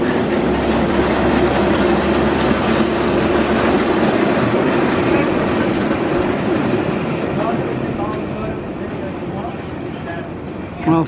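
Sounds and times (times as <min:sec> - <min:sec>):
miniature train wheels on rails: 0:00.0 - 0:11.0.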